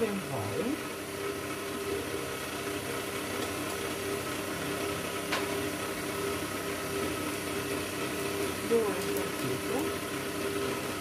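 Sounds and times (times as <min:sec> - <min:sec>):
stand mixer motor hum: 0:00.0 - 0:11.0.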